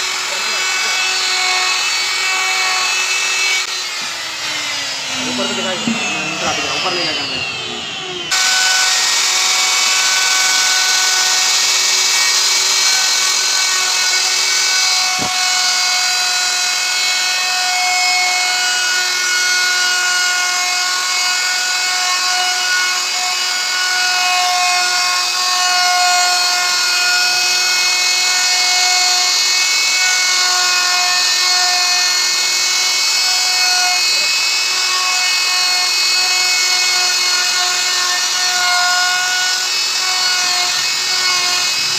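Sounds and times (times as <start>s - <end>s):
router cutting wood: 0.0s - 41.9s.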